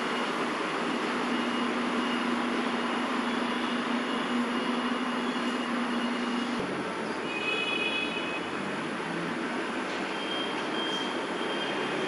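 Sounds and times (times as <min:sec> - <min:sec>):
city traffic: 0:00.0 - 0:12.0.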